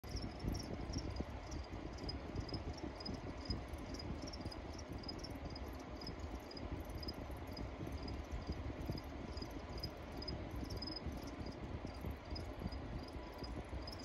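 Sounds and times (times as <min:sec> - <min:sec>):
low background rumble: 0:00.0 - 0:14.0
crickets chirping: 0:00.1 - 0:14.0.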